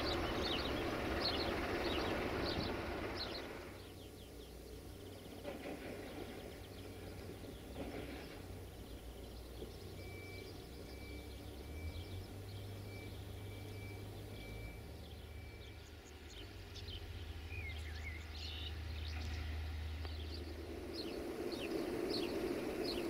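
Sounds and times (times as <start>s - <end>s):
birds chirping: 0.0s - 23.0s
low hum: 0.0s - 23.0s.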